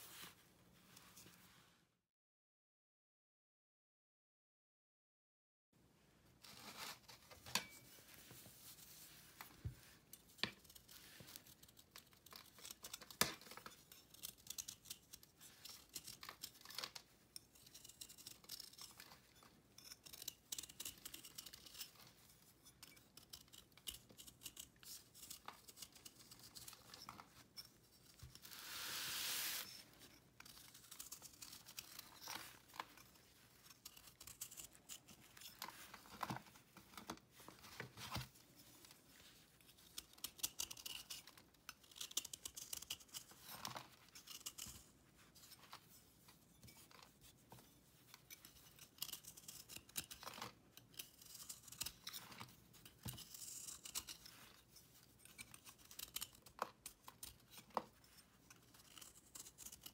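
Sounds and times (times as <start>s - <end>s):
knife scraping dried paste: 6.5s - 36.1s, 38.8s - 59.9s.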